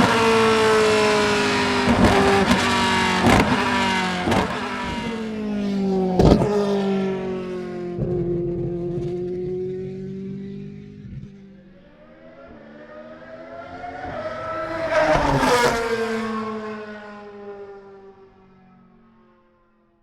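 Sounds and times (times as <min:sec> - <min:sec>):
racing car passing at speed: 0:00.0 - 0:19.4.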